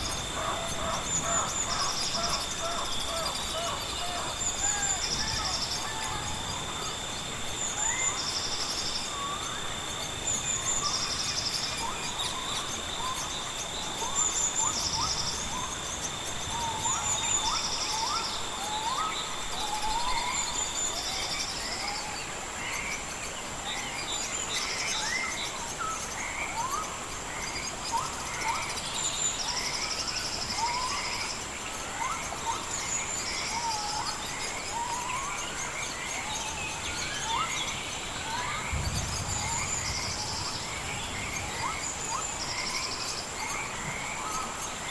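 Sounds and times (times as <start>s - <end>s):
insects droning: 0.0s - 44.9s
pulsed insect trills: 0.0s - 44.9s.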